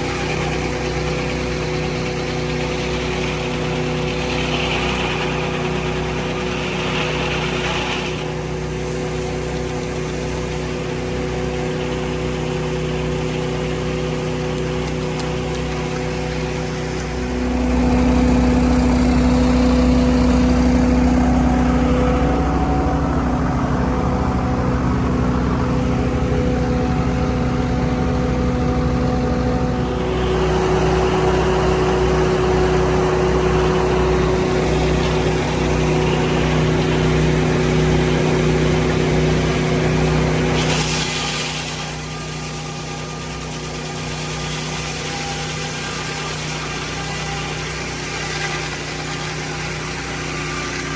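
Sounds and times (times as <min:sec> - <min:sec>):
sawmill engine running: 0:00.0 - 0:50.9.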